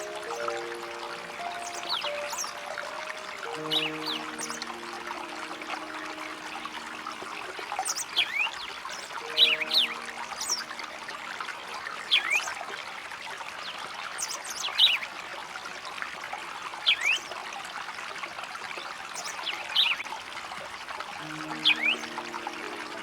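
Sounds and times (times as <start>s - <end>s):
trickle of running water: 0.0s - 23.0s.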